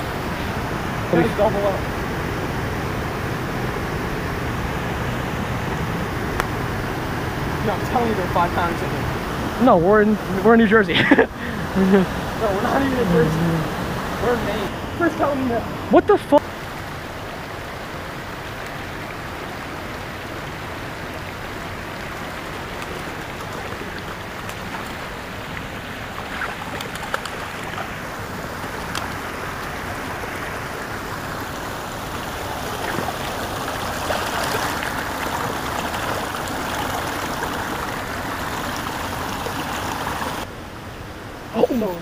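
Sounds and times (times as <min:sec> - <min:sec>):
stream rushing over stones: 0:00.0 - 0:42.0.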